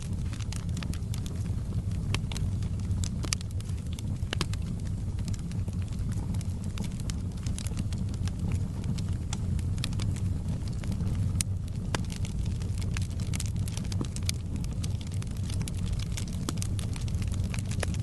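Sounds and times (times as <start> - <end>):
fire popping and snapping: 0.0 - 18.0
low rumble of burning fire: 0.0 - 18.0.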